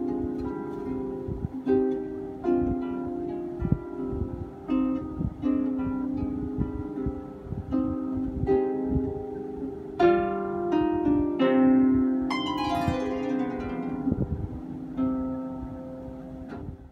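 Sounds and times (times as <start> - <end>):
harp plucked by hand: 0.0 - 16.9.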